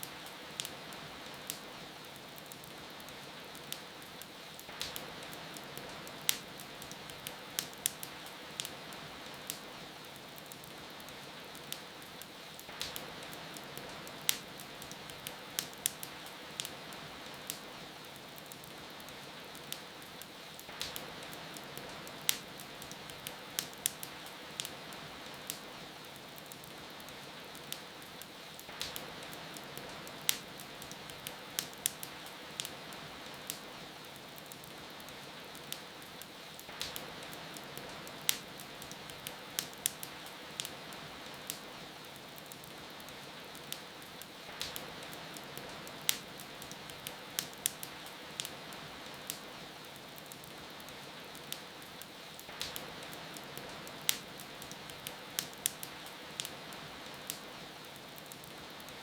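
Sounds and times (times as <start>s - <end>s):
rain falling: 0.0s - 59.0s
wood fire crackling and popping: 0.0s - 59.0s.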